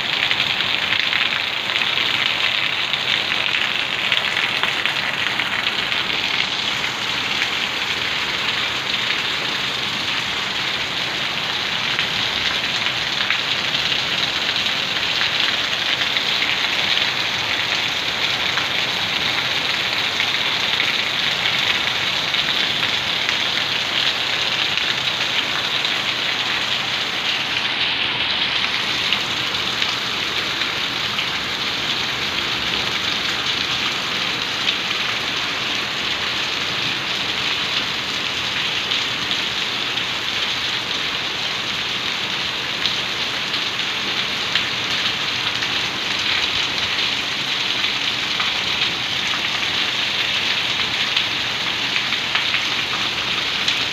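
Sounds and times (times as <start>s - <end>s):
heavy rain on concrete: 0.0s - 53.9s.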